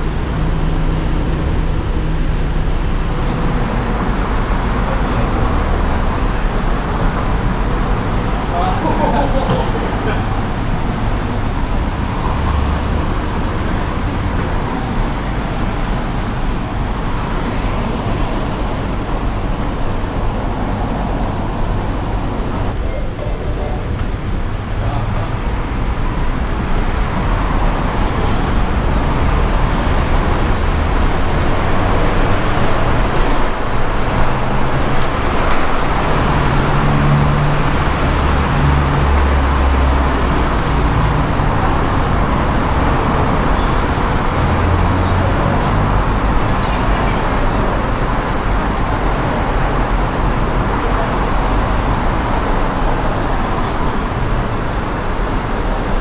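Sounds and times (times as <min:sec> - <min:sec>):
road traffic noise: 0:00.0 - 0:56.0
vehicles passing with engine rumble: 0:00.0 - 0:56.0.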